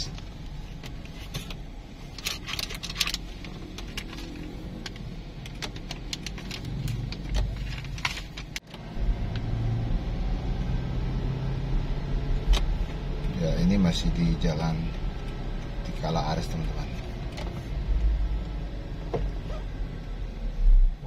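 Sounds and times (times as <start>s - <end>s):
car engine and road hum: 0.0s - 21.0s.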